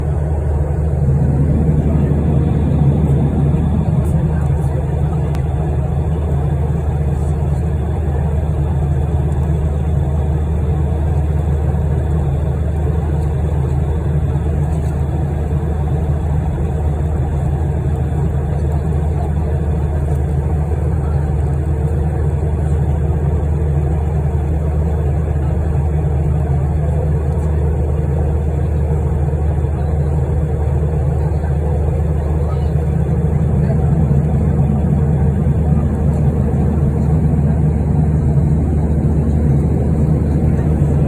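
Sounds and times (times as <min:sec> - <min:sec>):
aeroplane cabin engine drone: 0:00.0 - 0:41.0.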